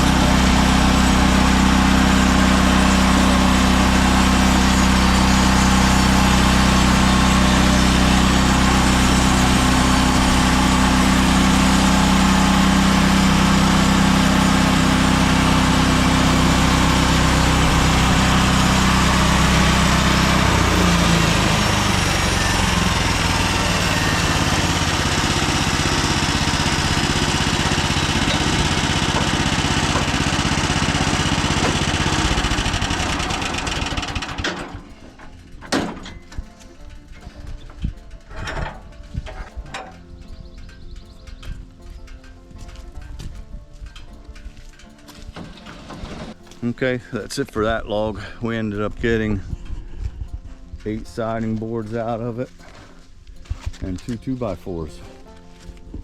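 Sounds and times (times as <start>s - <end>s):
gas engine running: 0.0s - 56.0s.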